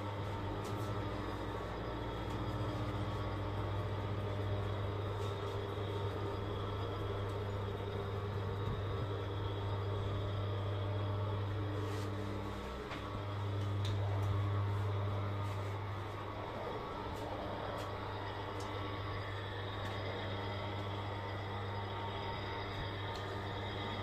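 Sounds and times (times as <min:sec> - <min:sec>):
electric motor humming: 0:00.0 - 0:24.0.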